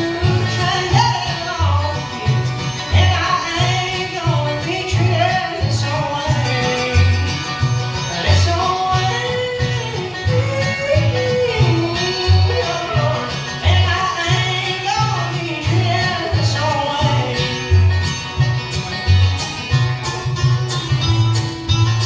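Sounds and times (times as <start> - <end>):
strummed guitar and banjo: 0.0 - 22.0.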